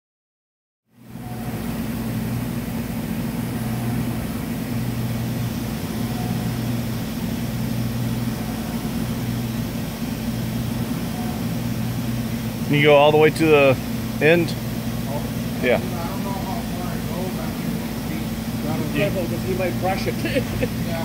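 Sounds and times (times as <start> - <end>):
mill mechanical hum: 0.9 - 21.0.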